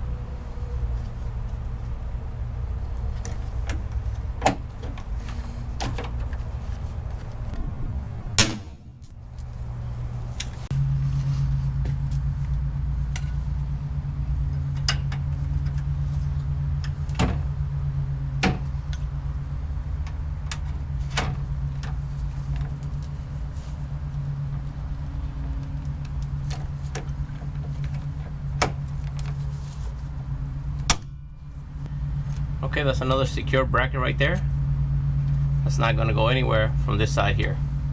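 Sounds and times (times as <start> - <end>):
low motor hum: 0.0 - 37.9.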